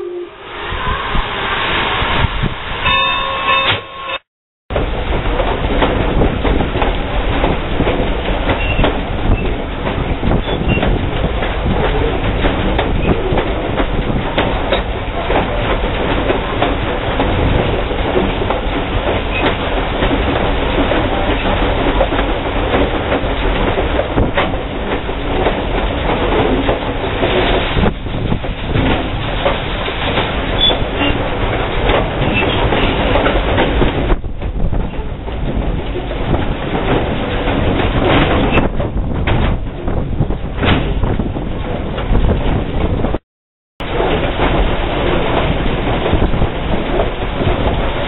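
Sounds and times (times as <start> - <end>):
steam locomotive wheels rumbling: 0.0 - 43.2, 43.8 - 48.0
clickety-clack over rail joints: 4.7 - 43.2, 43.8 - 48.0.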